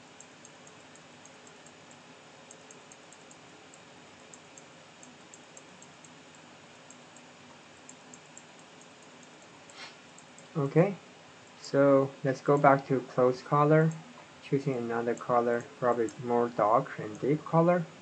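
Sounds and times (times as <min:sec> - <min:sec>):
microphone hiss: 0:00.0 - 0:18.0.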